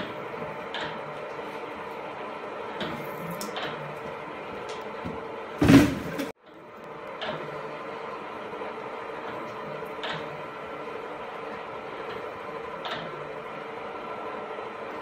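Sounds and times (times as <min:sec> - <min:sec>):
milling machine humming: 0:00.0 - 0:05.6, 0:06.2 - 0:15.0.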